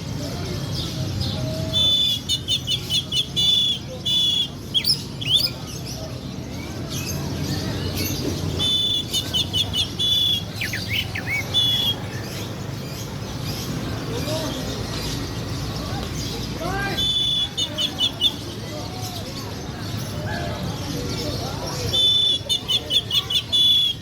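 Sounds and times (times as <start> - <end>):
songbird singing: 0.2 - 24.0.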